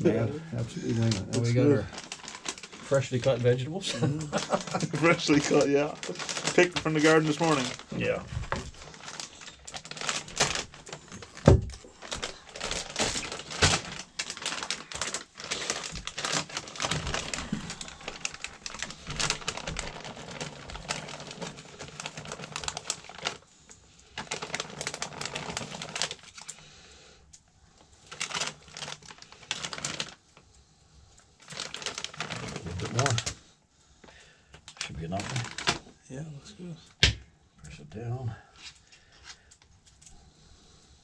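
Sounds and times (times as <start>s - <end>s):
plastic bag crinkling: 0.1s - 26.8s, 27.8s - 30.4s, 31.2s - 35.9s.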